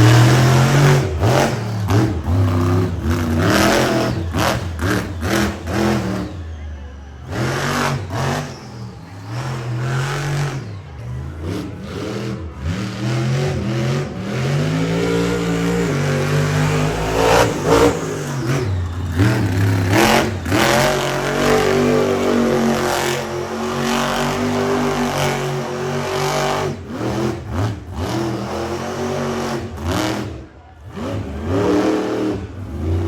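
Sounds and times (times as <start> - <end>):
truck engine revving hard: 0.0 - 33.0.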